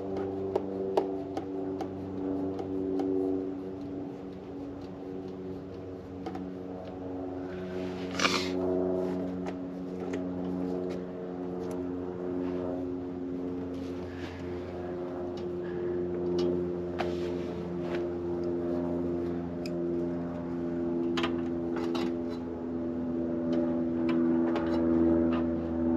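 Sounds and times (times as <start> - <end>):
droning hum: 0.0 - 25.9.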